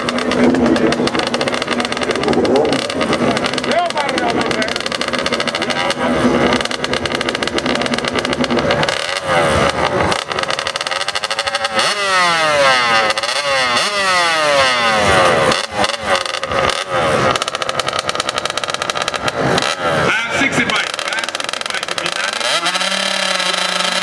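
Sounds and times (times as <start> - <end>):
two-stroke dirt bike engine revving: 0.0 - 24.0.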